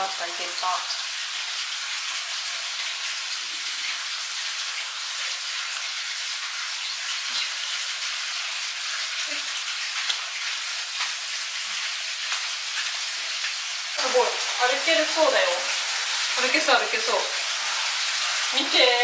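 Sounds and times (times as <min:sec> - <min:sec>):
running water hiss: 0:00.0 - 0:19.0.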